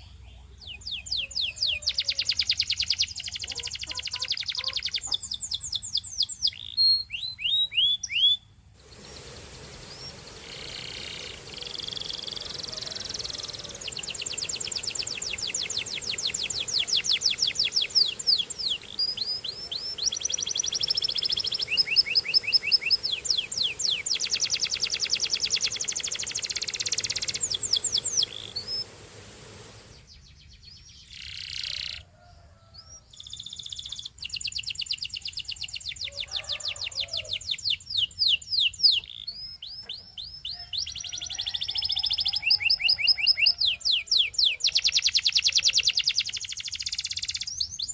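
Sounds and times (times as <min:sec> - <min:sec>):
canary singing trills: 0:00.0 - 0:29.1, 0:29.8 - 0:47.9.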